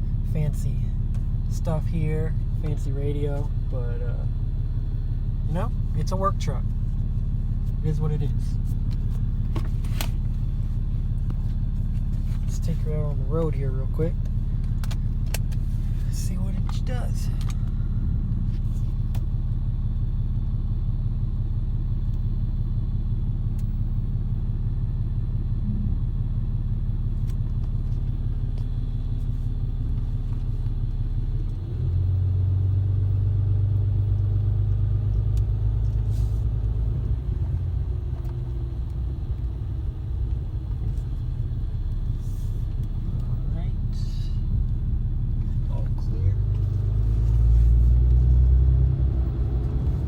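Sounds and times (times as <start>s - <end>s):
diesel truck engine droning: 0.0s - 50.0s.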